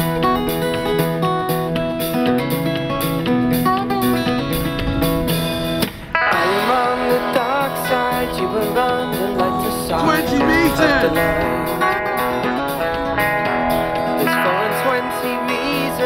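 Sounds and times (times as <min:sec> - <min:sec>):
acoustic guitar song: 0:00.0 - 0:16.0.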